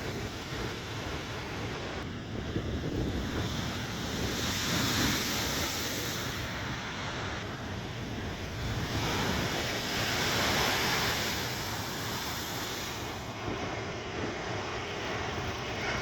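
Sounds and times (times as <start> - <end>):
rough sea surf breaking: 0.0 - 16.0
wind rumbling on microphone: 0.0 - 16.0.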